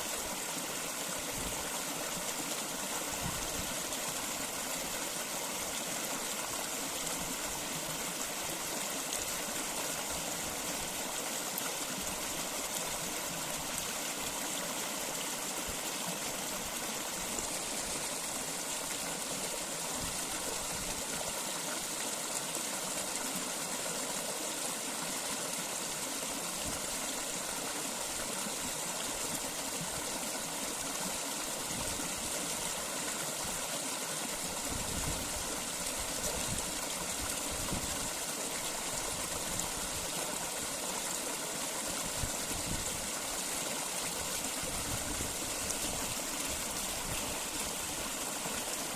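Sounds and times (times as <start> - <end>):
running water flowing: 0.0 - 48.9.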